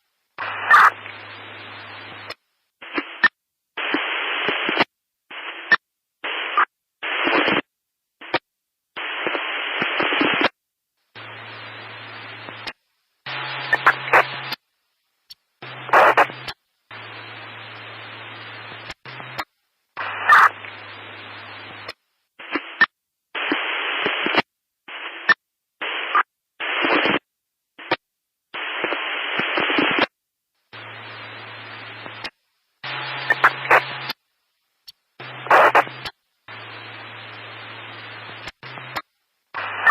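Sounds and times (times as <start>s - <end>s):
static hiss bursts: 0.0s - 39.9s.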